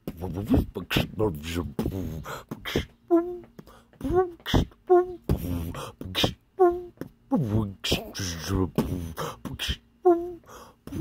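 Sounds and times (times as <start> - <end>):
man beatboxing: 0.0 - 11.0.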